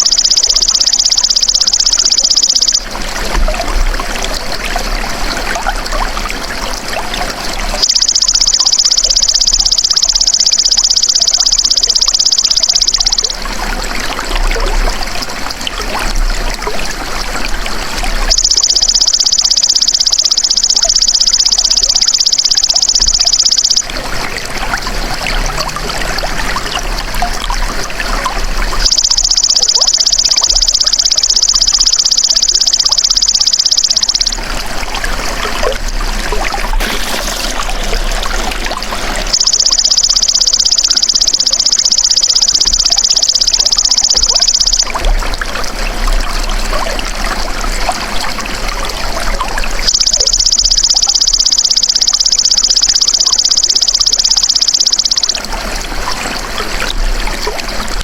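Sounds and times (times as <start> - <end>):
trickling water: 0.0 - 58.0.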